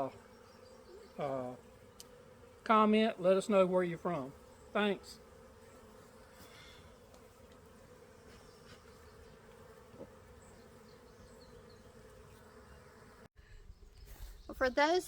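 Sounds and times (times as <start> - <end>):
honey bees humming: 0.0 - 14.0.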